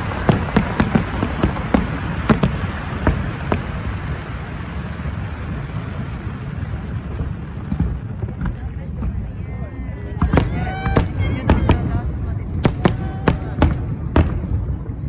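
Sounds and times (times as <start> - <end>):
fireworks bangs: 0.0 - 15.0
rumble of distant fireworks: 0.0 - 15.0.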